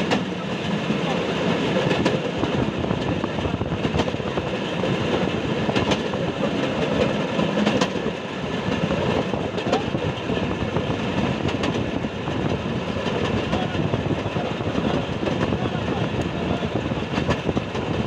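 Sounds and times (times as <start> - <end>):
rail joint clicks: 0.0 - 18.0
train wheels rumbling on track: 0.0 - 18.0.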